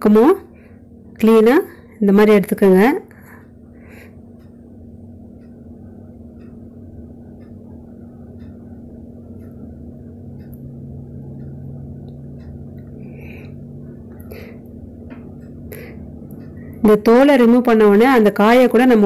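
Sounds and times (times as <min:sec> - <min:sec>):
low hum with held tone: 0:00.0 - 0:19.0.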